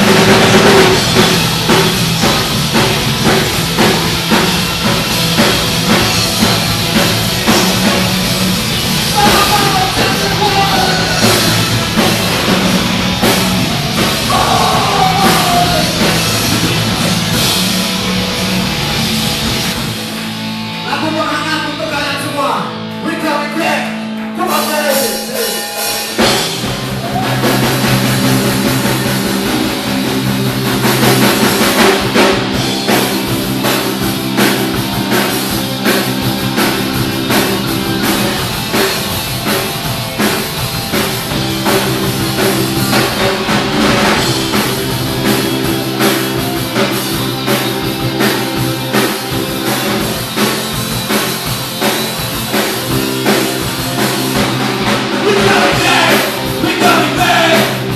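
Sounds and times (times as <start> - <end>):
loud punk rock band: 0.0 - 57.9.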